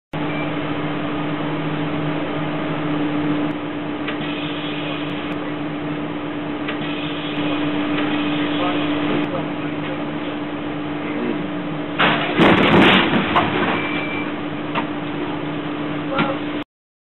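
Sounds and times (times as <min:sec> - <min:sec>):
low hum: 0:00.2 - 0:16.2.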